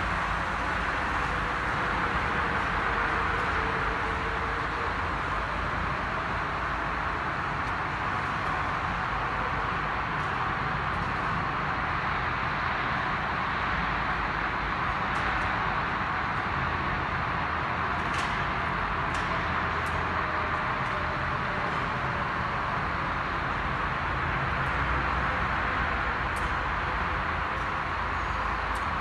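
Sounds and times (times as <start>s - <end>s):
arena machinery hum: 0.0s - 29.0s
ice resurfacing machines running: 0.0s - 29.0s.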